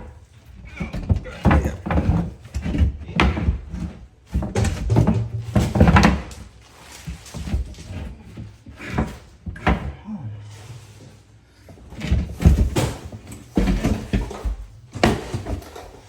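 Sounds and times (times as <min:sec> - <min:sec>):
demolition thuds on wall: 0:00.0 - 0:10.0, 0:11.9 - 0:16.0.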